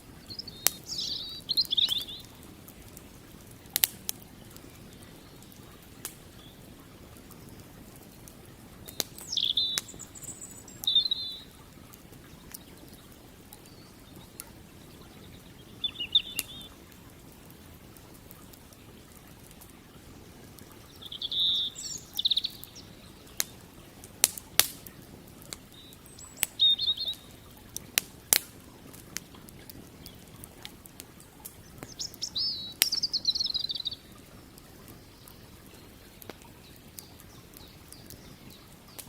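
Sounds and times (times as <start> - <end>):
birds chirping: 0.0 - 17.4, 18.0 - 28.3, 29.7 - 39.0
campfire crackling: 0.0 - 39.0
running water: 0.0 - 39.0.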